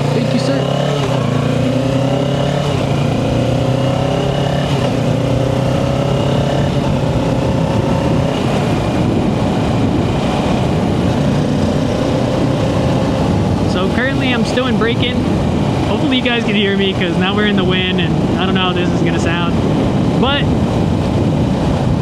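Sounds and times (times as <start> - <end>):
motorcycle engine accelerating: 0.0 - 22.0
wind rush: 0.0 - 22.0.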